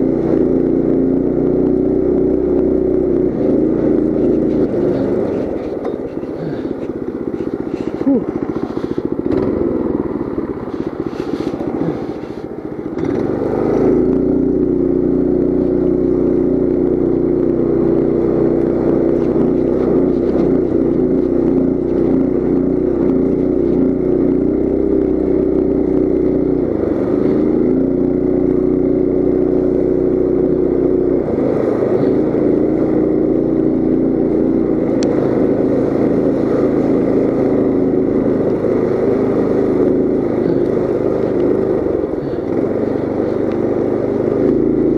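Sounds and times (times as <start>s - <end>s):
mini bike engine running: 0.0s - 44.9s.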